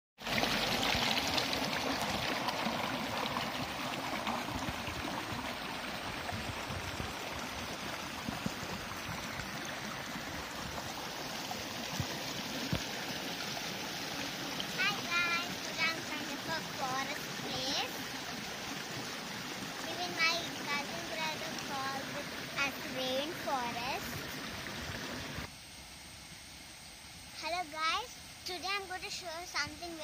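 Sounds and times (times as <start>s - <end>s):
water trickling over rocks: 0.2s - 25.5s.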